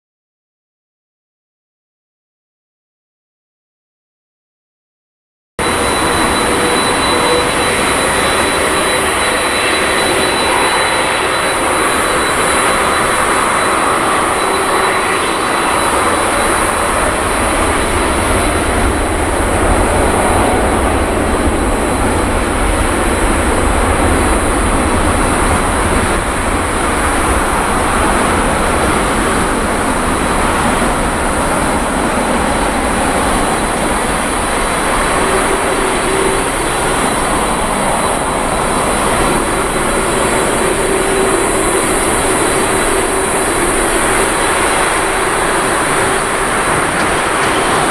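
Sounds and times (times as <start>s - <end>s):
jet engine high whine: 5.6s - 47.9s
jet engines deep rumble: 5.6s - 47.9s.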